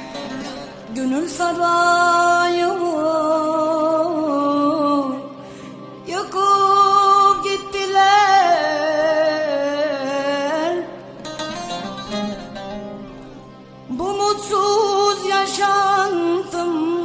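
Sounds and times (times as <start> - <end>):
musical backing: 0.0 - 17.0.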